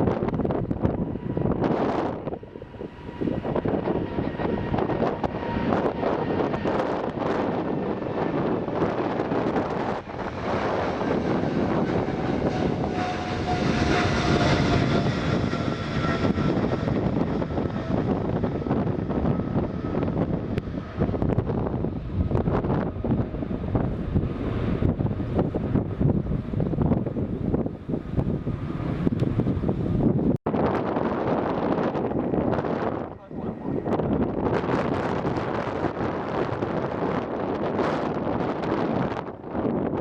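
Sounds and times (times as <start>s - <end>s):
jet engines rumbling: 0.0s - 40.0s
wind buffeting microphone: 0.0s - 40.0s.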